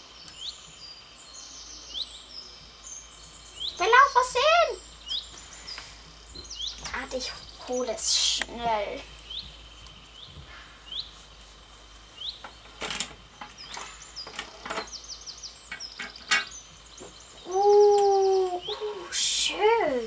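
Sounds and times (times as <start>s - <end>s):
bird chirping and trilling: 0.0s - 11.4s, 12.1s - 20.0s.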